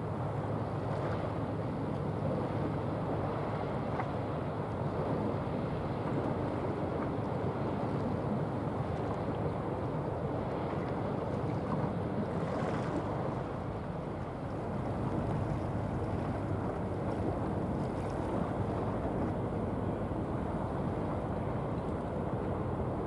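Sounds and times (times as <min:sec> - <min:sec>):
ship rumbling on water: 0:00.0 - 0:23.0.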